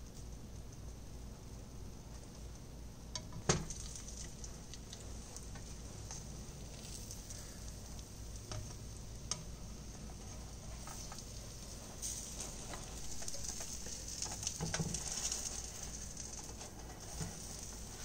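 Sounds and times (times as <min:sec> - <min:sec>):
batter sizzling in frying pan: 0:00.0 - 0:18.0.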